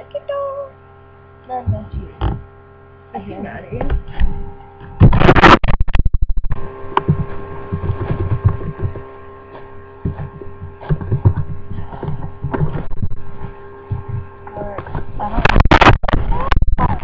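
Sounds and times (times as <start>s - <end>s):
electrical hum: 0.0s - 17.0s
irregular low thumps: 1.6s - 2.5s, 3.6s - 17.0s.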